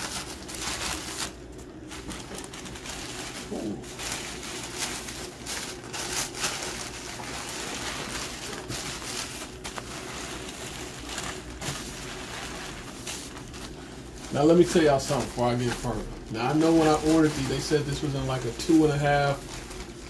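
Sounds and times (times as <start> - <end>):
packing paper crinkling: 0.0 - 20.0.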